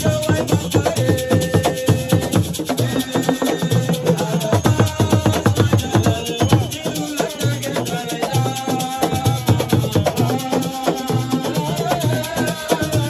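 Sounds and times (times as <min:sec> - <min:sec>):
drums beaten in fast rhythm: 0:00.0 - 0:13.0
person singing: 0:00.0 - 0:13.0.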